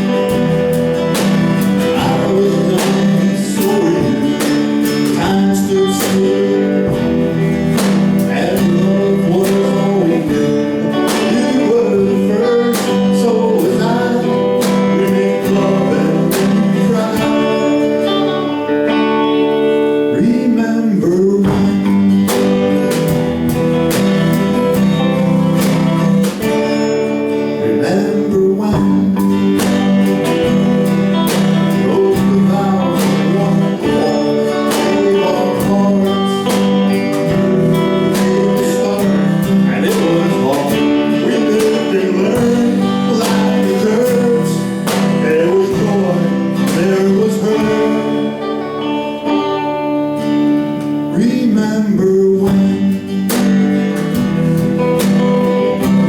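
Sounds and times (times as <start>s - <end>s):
person singing: 0.0s - 56.0s
strummed acoustic guitar: 0.0s - 56.0s.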